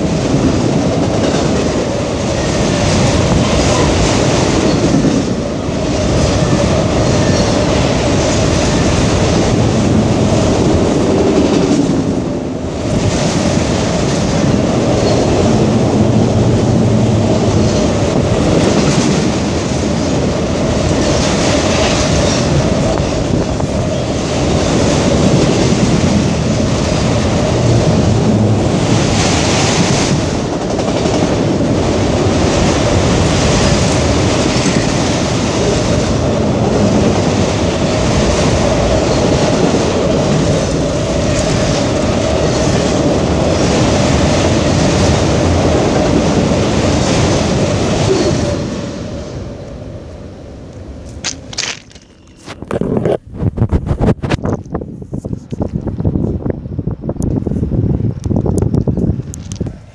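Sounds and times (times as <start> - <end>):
train wheels on rails: 0.0 - 56.6, 57.2 - 59.9.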